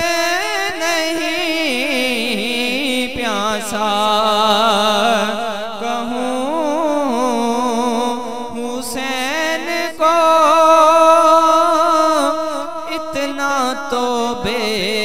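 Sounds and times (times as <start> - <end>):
man singing slow melody: 0.0 - 15.0.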